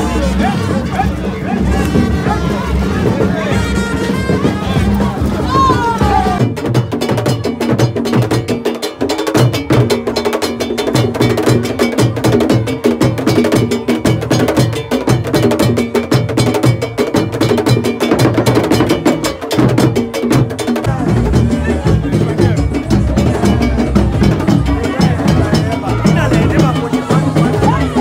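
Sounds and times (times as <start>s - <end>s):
hand drums: 0.0s - 28.0s
barrel drums struck with sticks: 1.7s - 28.0s.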